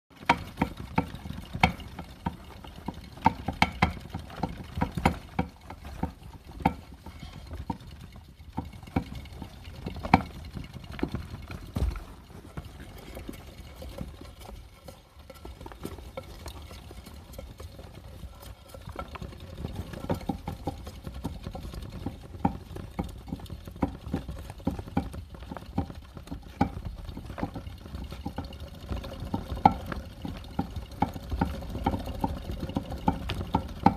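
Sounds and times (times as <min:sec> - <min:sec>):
hamster wheels rumbling: 0:00.1 - 0:33.9
wheels clicking and knocking: 0:00.1 - 0:33.9.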